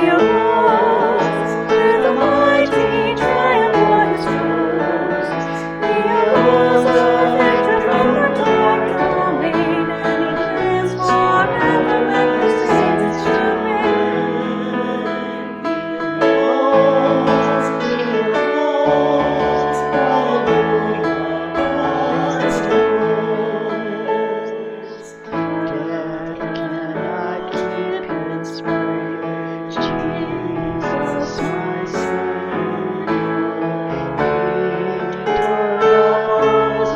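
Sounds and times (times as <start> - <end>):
person singing: 0.0 - 36.9
piano playing a hymn: 0.0 - 36.9.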